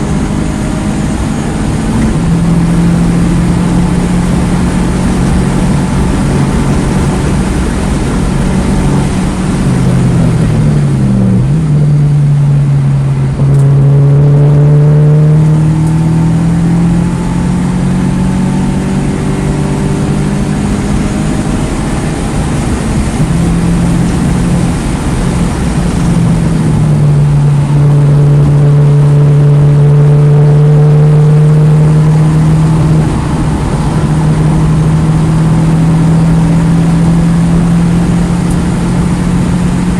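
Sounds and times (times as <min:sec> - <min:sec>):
car engine running hard: 0:00.0 - 0:39.9
road and wind noise: 0:00.0 - 0:39.9.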